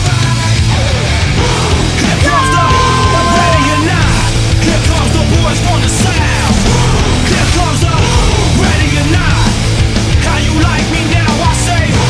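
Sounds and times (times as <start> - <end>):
loud heavy rock music: 0.0 - 12.0.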